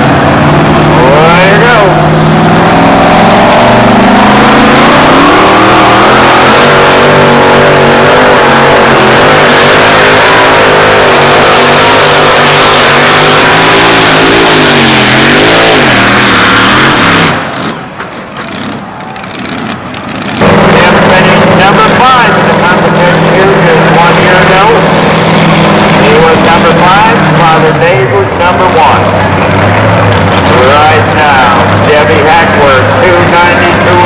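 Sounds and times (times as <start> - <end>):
truck engine revving under load: 0.0 - 34.0.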